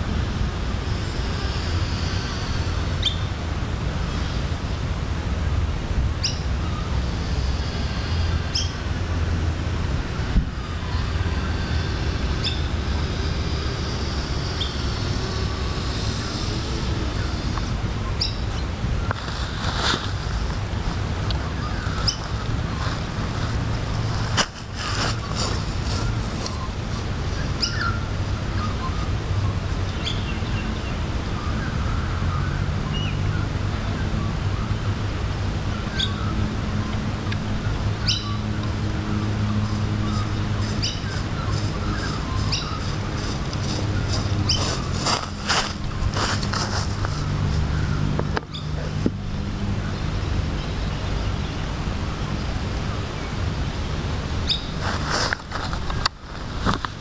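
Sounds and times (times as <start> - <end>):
wind rumbling on microphone: 0.0 - 57.0
birds chirping: 0.9 - 3.4, 6.2 - 9.5, 10.5 - 35.0, 35.7 - 57.0.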